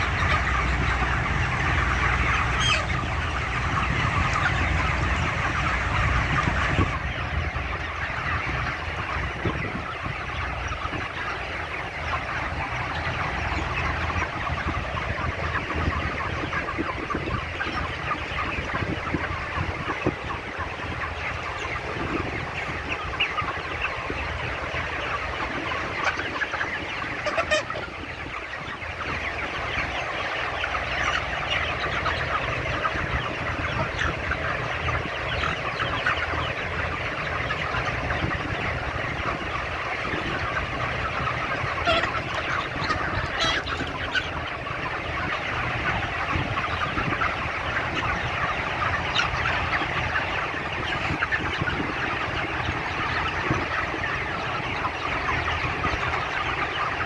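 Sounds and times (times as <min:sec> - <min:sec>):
chickens clucking and cheeping: 0:00.0 - 0:57.0
louder chicken calls: 0:00.0 - 0:57.0.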